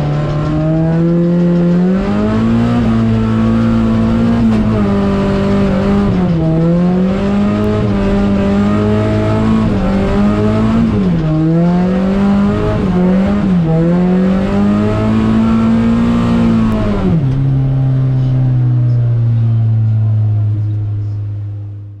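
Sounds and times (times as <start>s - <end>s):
car engine revving high: 0.0s - 21.6s.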